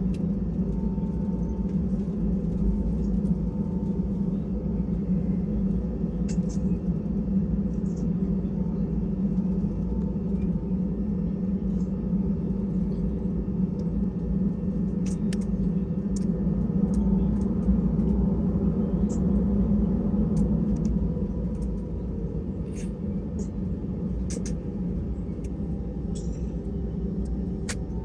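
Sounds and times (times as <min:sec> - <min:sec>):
aircraft cabin hum: 0:00.0 - 0:28.0.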